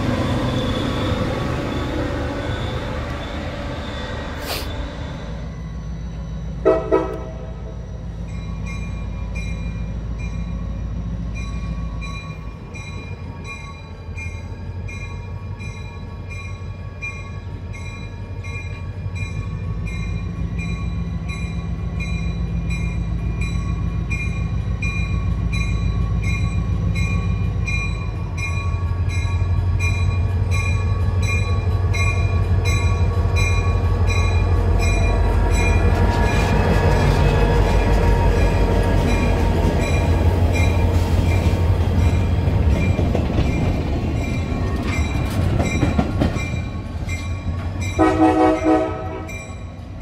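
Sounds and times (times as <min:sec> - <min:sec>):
train locomotive rumble: 0:00.0 - 0:50.0
locomotive bell ringing: 0:05.3 - 0:36.8, 0:37.7 - 0:50.0.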